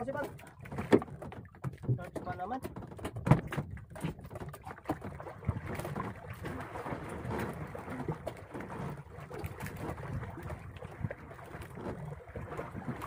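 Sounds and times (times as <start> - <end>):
paddle splashing water: 0.0 - 13.0.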